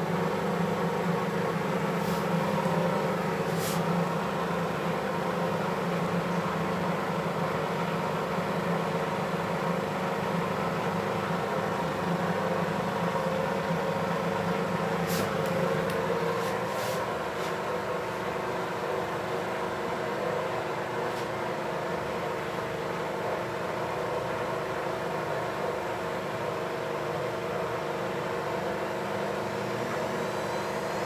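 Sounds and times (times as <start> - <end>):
washing machine motor hum: 0.0 - 31.0.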